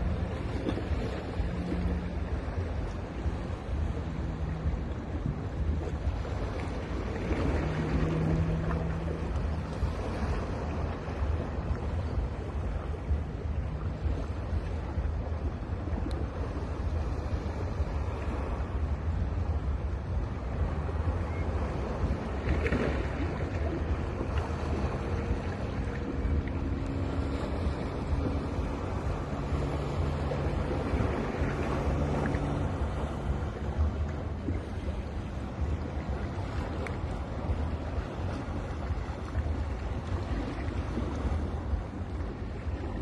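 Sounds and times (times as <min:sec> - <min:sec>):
sea waves breaking on beach: 0:00.0 - 0:43.0.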